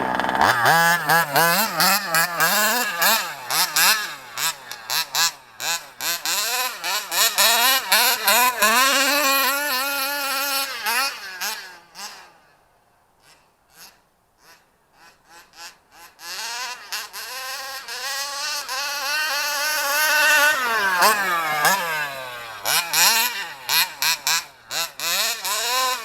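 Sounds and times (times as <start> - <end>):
two-stroke engine revving: 0.0 - 12.4, 13.2 - 26.0.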